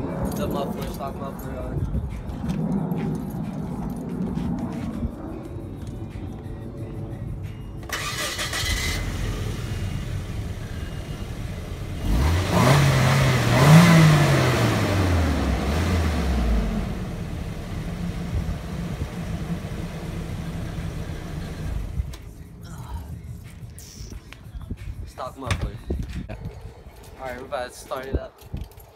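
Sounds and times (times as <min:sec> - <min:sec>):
car engine idling and revving: 0:00.0 - 0:23.6.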